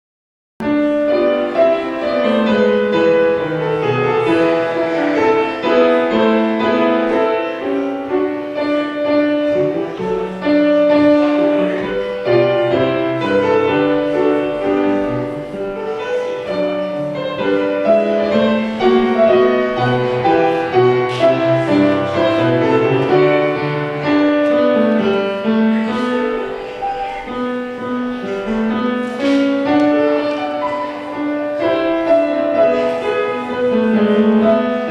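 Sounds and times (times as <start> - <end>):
piano piece: 0.6 - 34.9.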